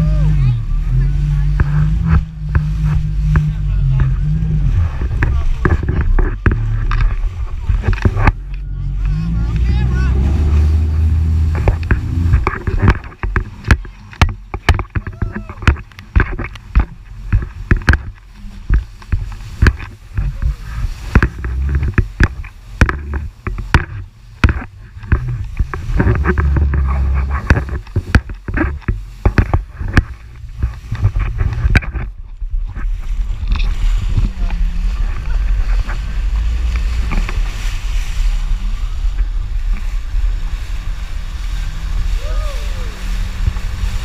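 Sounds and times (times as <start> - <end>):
hull slapping on waves: 0.0 - 44.0
jet ski engine rumble: 0.0 - 44.0.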